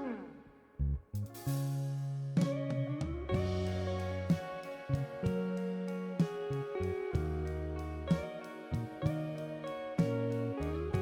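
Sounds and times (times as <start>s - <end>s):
plucked guitar music: 0.0s - 0.6s, 1.8s - 11.0s.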